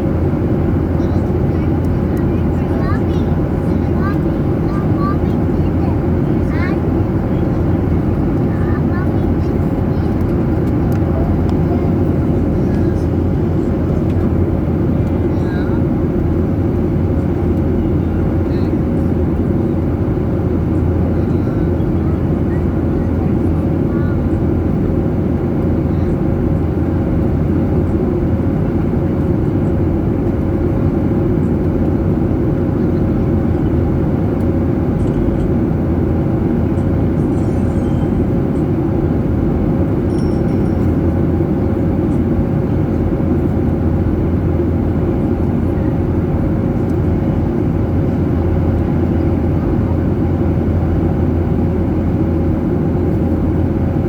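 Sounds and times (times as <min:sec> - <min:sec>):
jet engine and airflow rumble: 0:00.0 - 0:54.0
steady cabin hum: 0:00.0 - 0:54.0.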